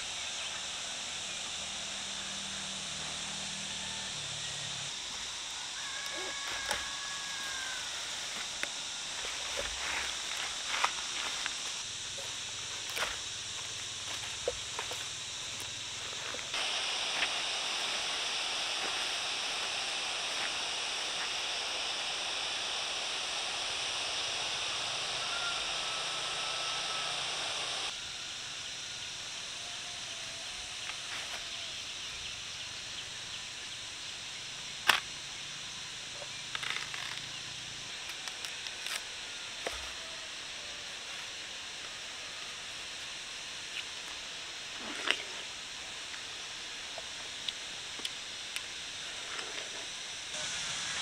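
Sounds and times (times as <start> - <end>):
steady high hiss: 0.0 - 51.0.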